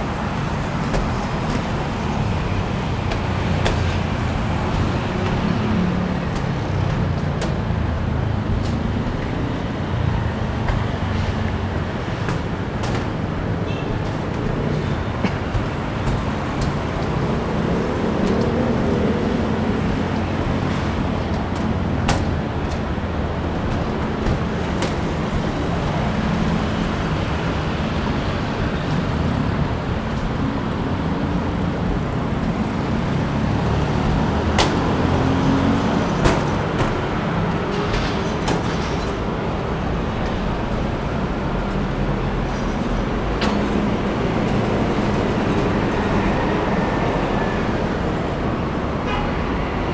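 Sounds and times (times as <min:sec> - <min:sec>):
road traffic rumble: 0:00.0 - 0:49.9.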